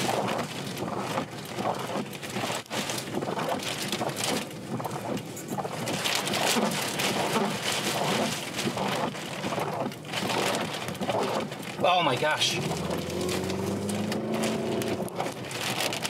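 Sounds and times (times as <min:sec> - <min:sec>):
driving rain: 0:00.0 - 0:16.0.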